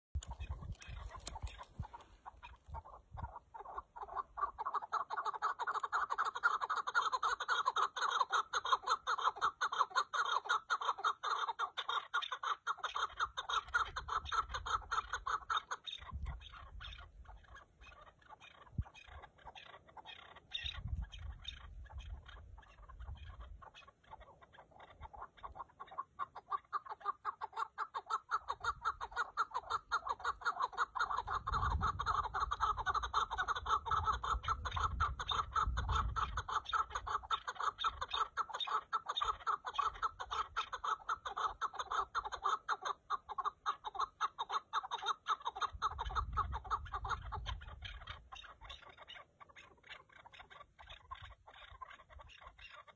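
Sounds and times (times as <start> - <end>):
partridges clucking calls: 0.2 - 52.9.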